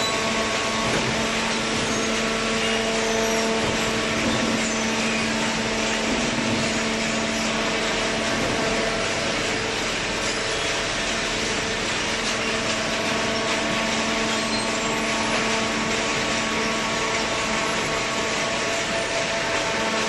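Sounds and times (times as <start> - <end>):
hydraulic baler humming: 0.0 - 20.0.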